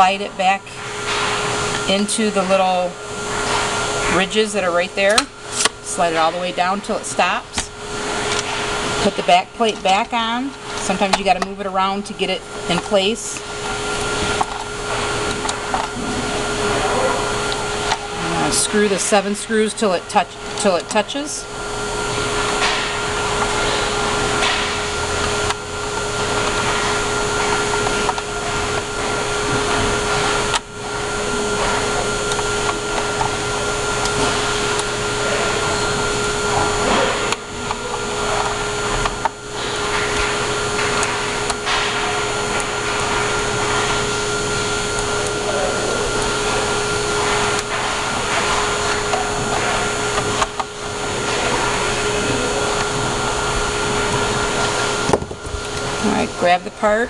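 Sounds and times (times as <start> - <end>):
fan or blower humming: 0.0 - 57.0.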